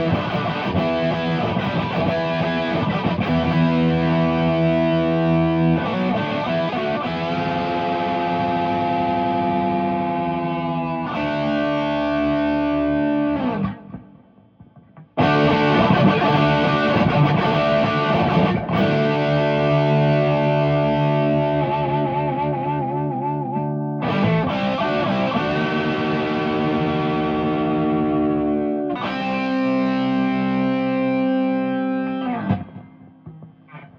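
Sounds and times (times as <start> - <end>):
distorted electric guitar chords: 0.0 - 33.9.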